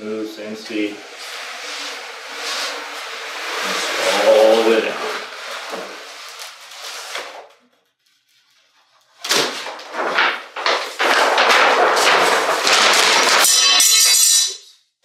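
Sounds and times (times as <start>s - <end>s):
plastic squeegee scraping vinyl: 0.4s - 13.5s
backing paper peeling: 0.7s - 13.7s
paper sheet rustling: 0.7s - 13.8s.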